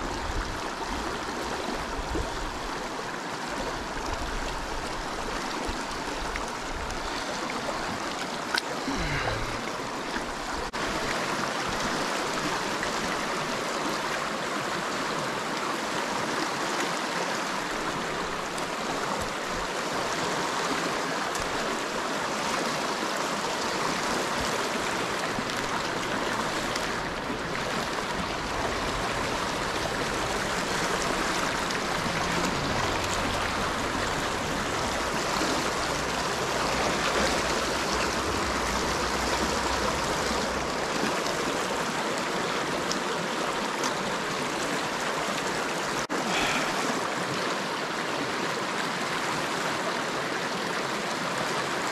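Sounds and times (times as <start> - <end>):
river flowing over rocks: 0.0 - 51.9.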